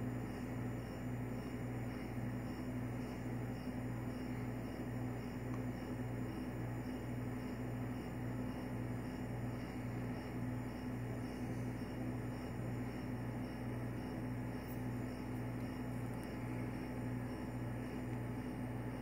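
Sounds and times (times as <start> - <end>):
pulsing machine hum: 0.0 - 19.0.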